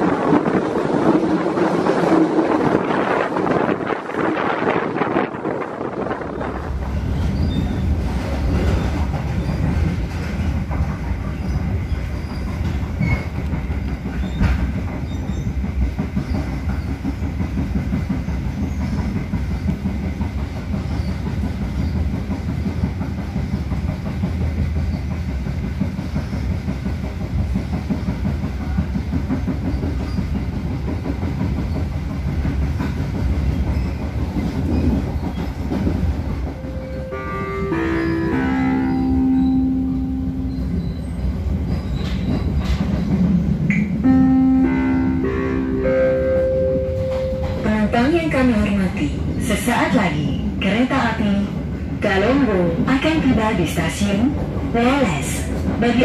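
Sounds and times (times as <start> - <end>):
train wheels rumbling on rails: 0.0 - 56.0
wheels clickety-clack: 0.4 - 37.0, 40.5 - 44.0, 47.0 - 56.0.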